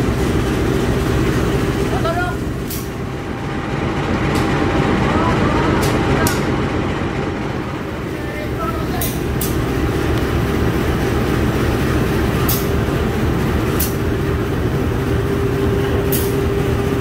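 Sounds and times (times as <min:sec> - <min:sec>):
rumble of train wheels on track: 0:00.0 - 0:17.0.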